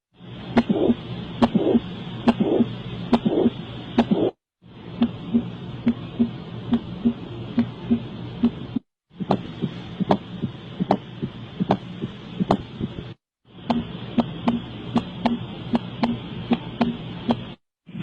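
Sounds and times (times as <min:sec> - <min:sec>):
steady low hum: 0:00.1 - 0:18.0
heartbeat lub-dub: 0:00.6 - 0:04.4, 0:05.0 - 0:17.6.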